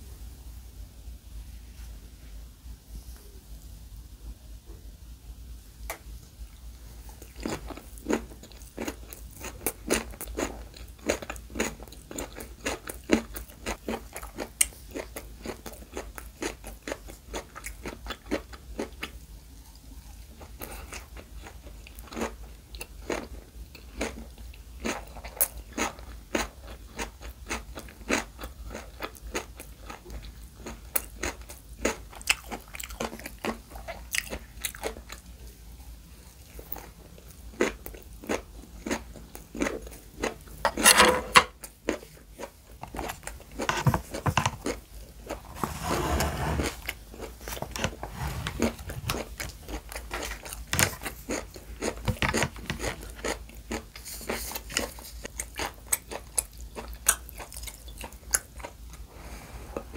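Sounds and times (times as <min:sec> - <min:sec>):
crunchy chewing: 0:06.5 - 0:40.9, 0:41.5 - 0:59.1.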